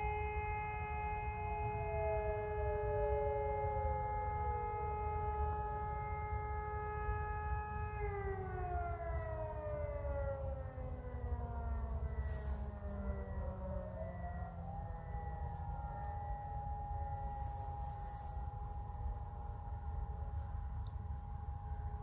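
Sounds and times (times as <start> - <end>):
second siren falling in pitch: 0.0 - 22.0
warning siren steady tone: 0.0 - 22.0.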